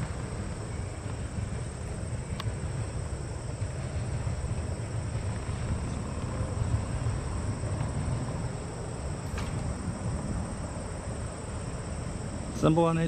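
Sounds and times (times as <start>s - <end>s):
crickets chirping: 0.0s - 13.0s
freight train rumbling past: 0.0s - 13.0s.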